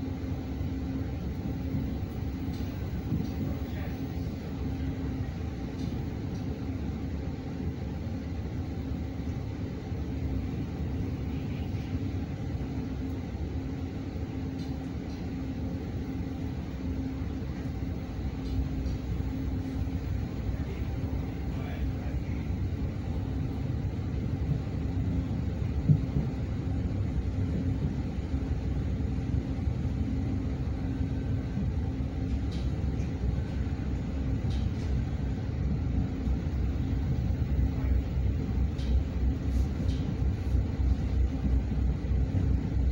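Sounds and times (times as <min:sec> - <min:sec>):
train rumbling inside carriage: 0:00.0 - 0:42.9.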